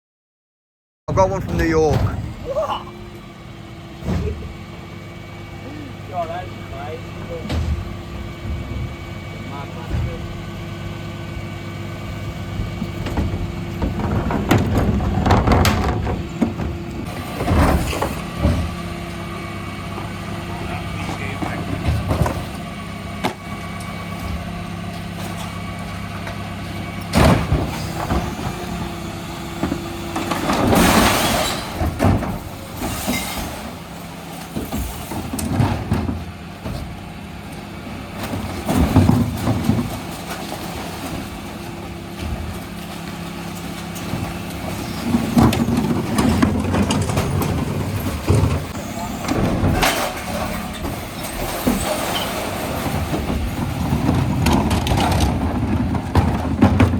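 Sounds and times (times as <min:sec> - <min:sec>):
refuse truck running: 0:01.1 - 0:56.9
recycling crashing into hopper: 0:06.1 - 0:56.9.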